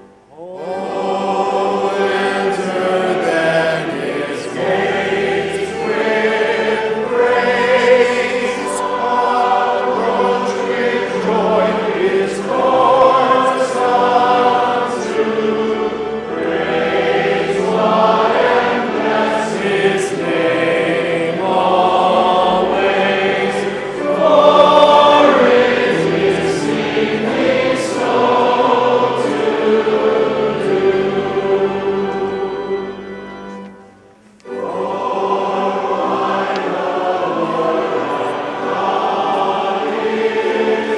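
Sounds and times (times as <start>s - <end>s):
choir singing sacred piece: 0.0s - 40.9s.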